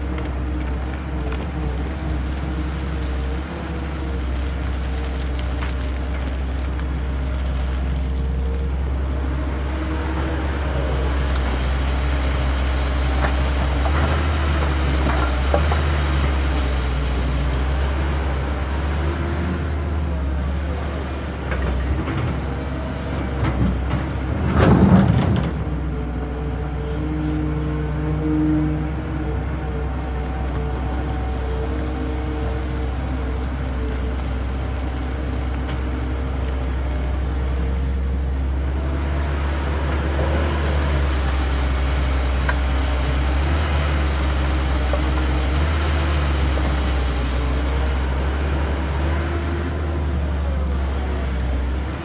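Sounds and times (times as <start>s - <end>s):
excavator diesel engine droning: 0.0s - 52.0s.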